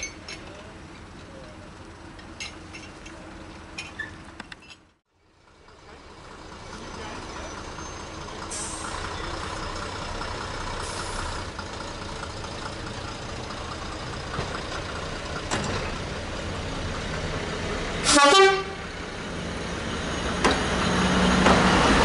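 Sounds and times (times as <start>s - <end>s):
train diesel engines running: 0.0s - 22.0s.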